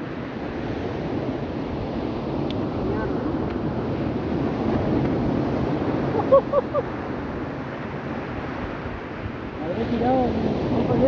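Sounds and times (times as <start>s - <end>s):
surf on beach: 0.0s - 11.0s
wind on microphone: 0.0s - 11.0s.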